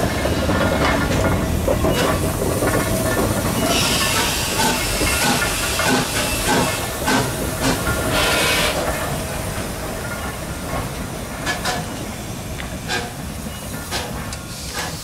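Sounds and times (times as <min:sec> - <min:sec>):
steam hissing: 0:00.0 - 0:15.0
steam locomotive exhaust chuffs: 0:00.0 - 0:15.0.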